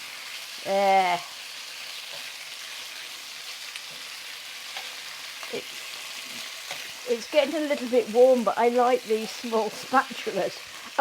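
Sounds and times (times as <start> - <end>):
chicken sizzling in oil: 0.0 - 11.0
spatula scraping skillet: 1.5 - 11.0.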